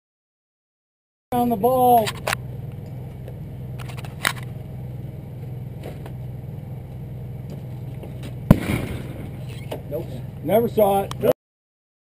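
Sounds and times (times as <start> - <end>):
vehicle engine idling: 1.3 - 11.3.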